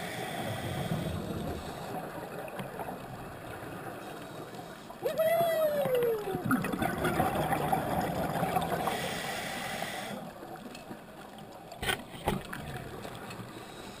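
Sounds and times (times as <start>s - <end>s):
quiet hiss: 0.0s - 6.5s, 7.7s - 14.0s
underwater bubbles gurgling: 0.0s - 14.0s.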